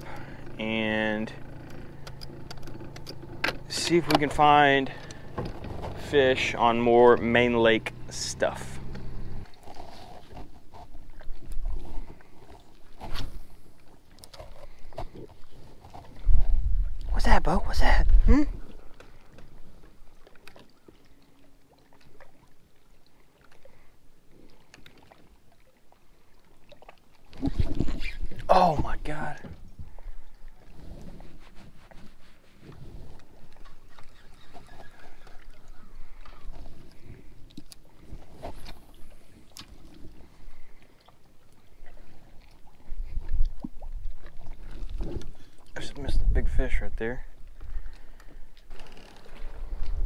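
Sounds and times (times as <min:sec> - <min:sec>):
water lapping around a boat: 0:00.0 - 0:50.0.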